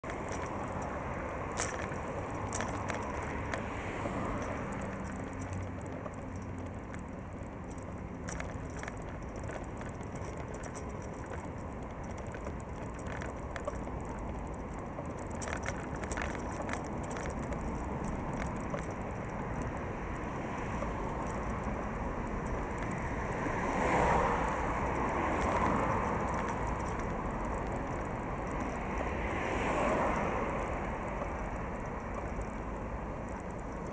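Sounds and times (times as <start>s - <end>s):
bicycle clicks and rattles: 0.0s - 33.9s
city traffic road noise: 0.0s - 33.9s.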